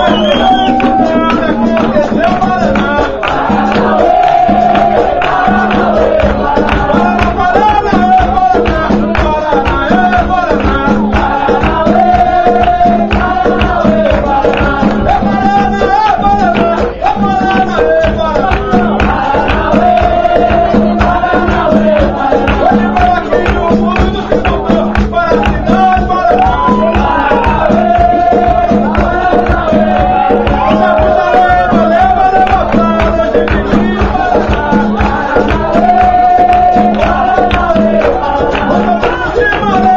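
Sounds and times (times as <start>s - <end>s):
driving percussion rhythm: 0.0s - 39.9s
people singing: 0.0s - 39.9s.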